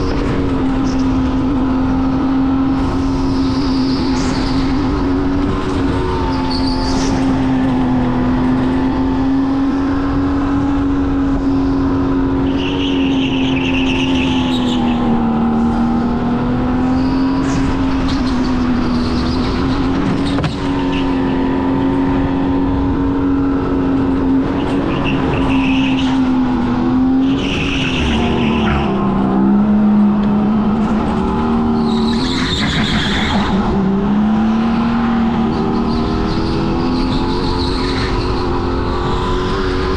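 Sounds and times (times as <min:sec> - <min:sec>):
go-kart motor droning: 0:00.0 - 0:39.9.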